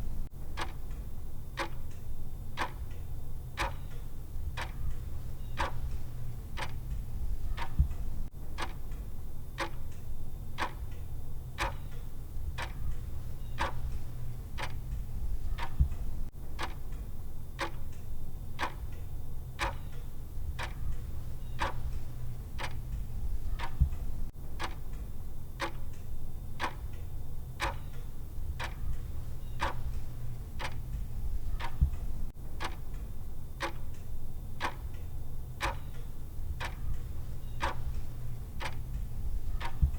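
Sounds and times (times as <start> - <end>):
clock ticking: 0.0 - 9.0, 9.6 - 10.0, 10.6 - 11.0, 11.6 - 17.0, 17.6 - 18.0, 18.6 - 19.0, 19.6 - 25.0, 25.6 - 39.9.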